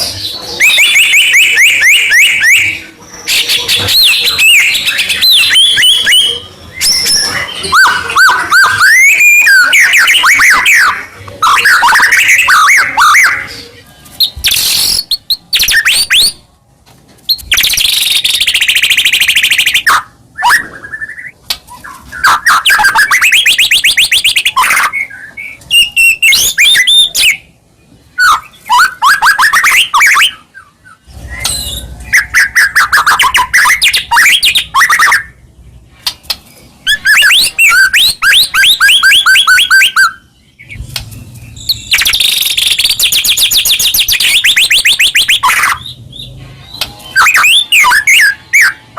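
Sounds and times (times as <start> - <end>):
bird singing trills and whistles: 0.0 - 16.4, 17.3 - 35.4, 36.0 - 48.9.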